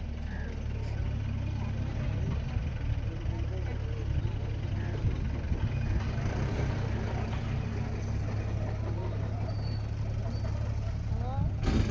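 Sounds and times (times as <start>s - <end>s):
heavy machine engine rumbling: 0.0s - 11.9s.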